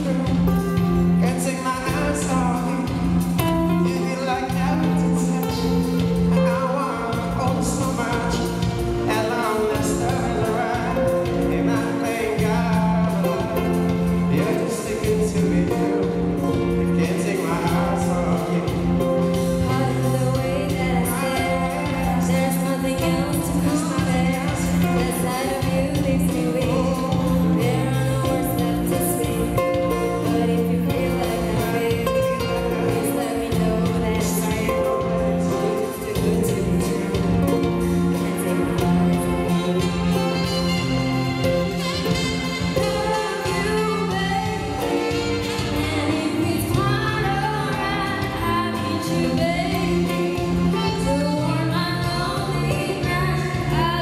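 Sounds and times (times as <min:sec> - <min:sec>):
live pop band: 0:00.0 - 0:54.0
woman singing: 0:00.0 - 0:54.0.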